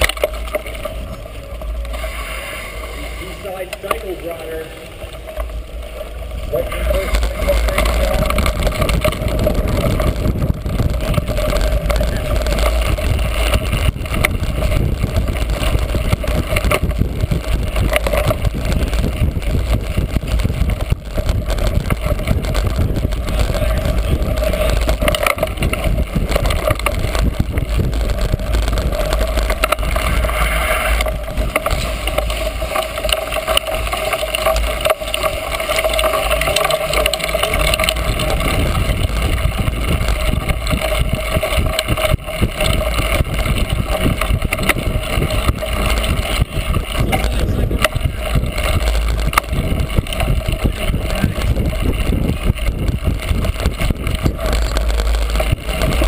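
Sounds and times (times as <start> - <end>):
bike rattling over rough ground: 0.0 - 56.0
wind rushing over microphone: 0.0 - 56.0.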